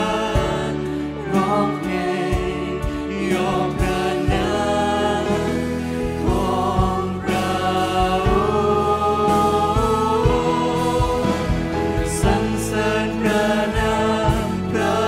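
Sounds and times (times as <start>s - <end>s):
band playing: 0.0s - 15.0s
man and woman singing: 0.0s - 15.0s
steady drum beat: 0.0s - 15.0s.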